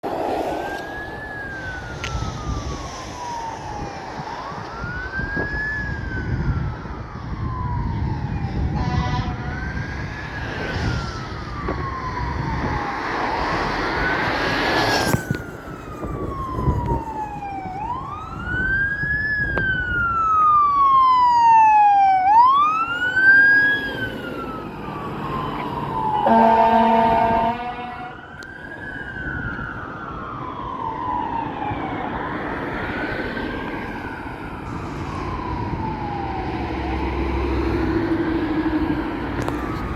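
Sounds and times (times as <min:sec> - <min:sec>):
fire engine siren wailing: 0:00.0 - 0:39.9.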